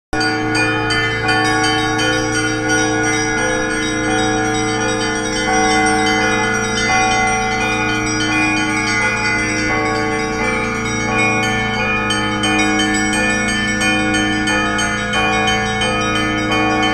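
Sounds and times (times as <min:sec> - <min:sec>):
church bells pealing: 0:00.2 - 0:16.9
low bell hum: 0:00.2 - 0:16.9.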